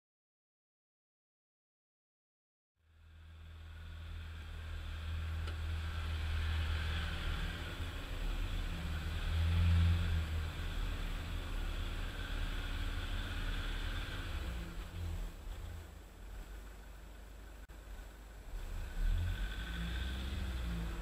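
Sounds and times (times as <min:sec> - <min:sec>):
car engine drone: 0:02.8 - 0:21.0
tyre and road noise: 0:02.9 - 0:21.0.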